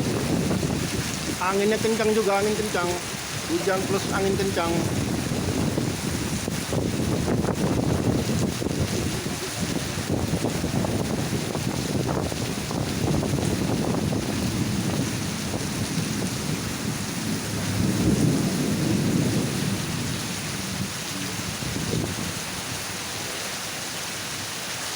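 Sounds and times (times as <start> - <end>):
gusty wind: 0.0 - 24.4
heavy rain: 0.0 - 24.9.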